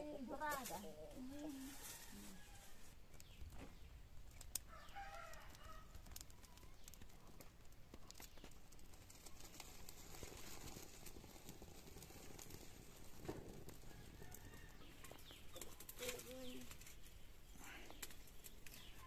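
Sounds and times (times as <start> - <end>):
dry leaves crackling as they burn: 0.0 - 19.0.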